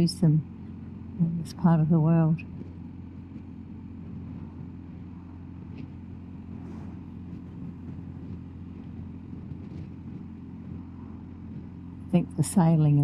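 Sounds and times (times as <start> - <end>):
muffled motorcycle engine cruising: 0.0 - 13.0
road and wind noise: 0.0 - 13.0.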